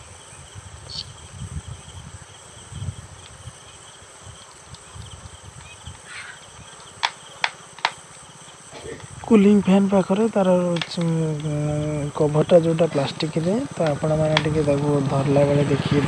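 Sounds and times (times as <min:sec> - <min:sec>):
crickets trilling: 0:00.0 - 0:16.0
handling noise: 0:03.0 - 0:16.0.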